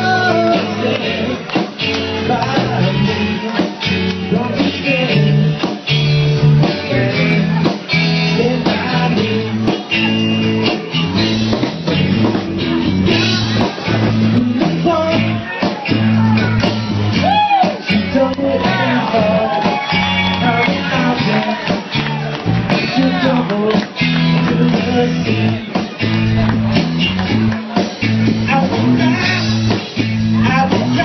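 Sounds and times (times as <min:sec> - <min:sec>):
person singing: 0:00.0 - 0:12.4, 0:13.1 - 0:31.0
drum beat: 0:00.0 - 0:31.0
guitar: 0:00.0 - 0:31.0.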